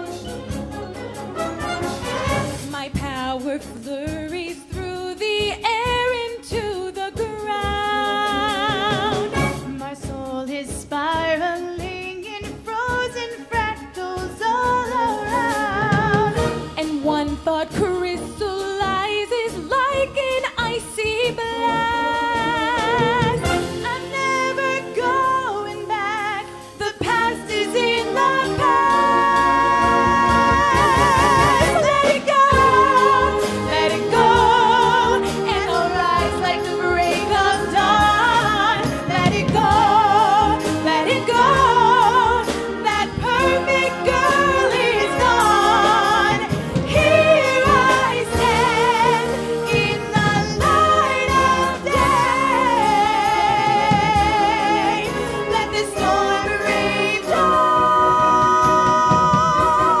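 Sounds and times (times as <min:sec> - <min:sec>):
live concert band playing: 0:00.0 - 1:00.0.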